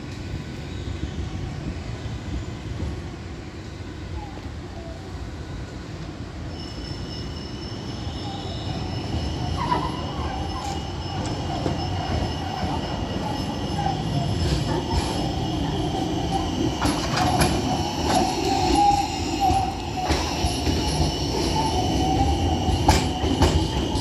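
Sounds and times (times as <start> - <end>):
tram rolling rumble: 0.0 - 24.0
tram wheels squealing on rails: 0.0 - 24.0.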